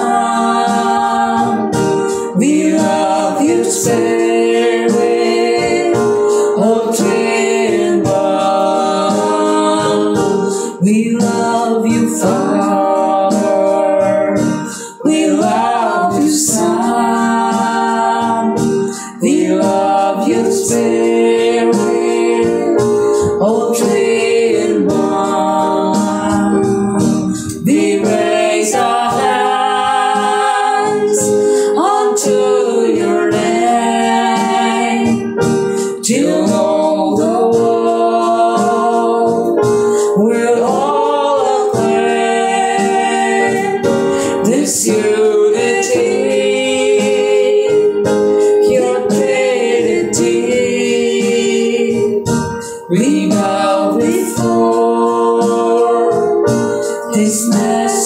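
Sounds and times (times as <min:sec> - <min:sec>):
congregation singing a hymn: 0:00.0 - 0:58.0
keyboard chords: 0:00.0 - 0:58.0.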